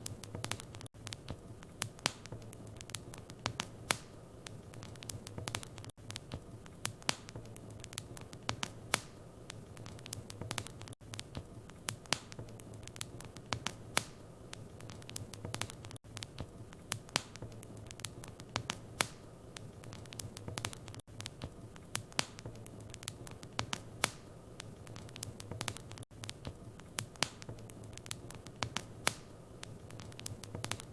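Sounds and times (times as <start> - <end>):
wood fire crackling and popping: 0.0 - 30.9.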